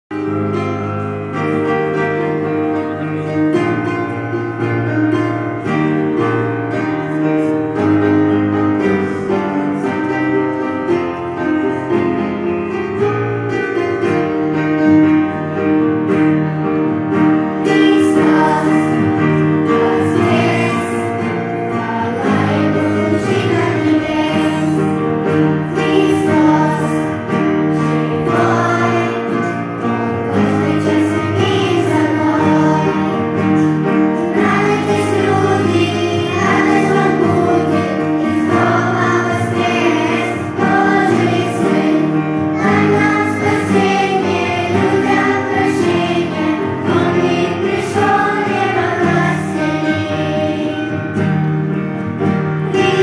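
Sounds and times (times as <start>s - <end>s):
children's choir singing: 0.1s - 53.0s
instrumental accompaniment: 0.1s - 53.0s.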